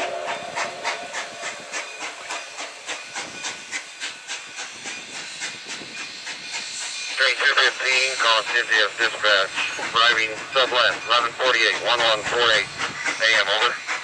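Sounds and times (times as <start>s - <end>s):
steam locomotive exhaust chuffing: 0.0s - 14.0s.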